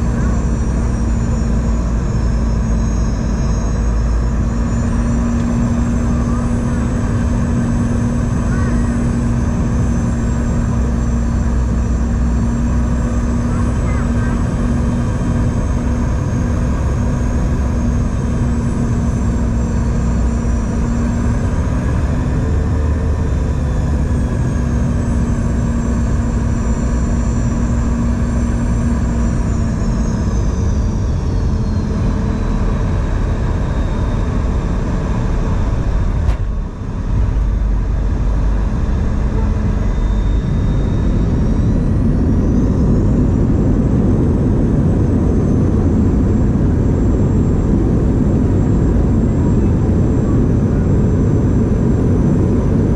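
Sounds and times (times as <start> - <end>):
airplane cabin rush and hum: 0.0 - 52.9
jet engine whine: 0.0 - 52.9
low rumble: 0.0 - 52.9.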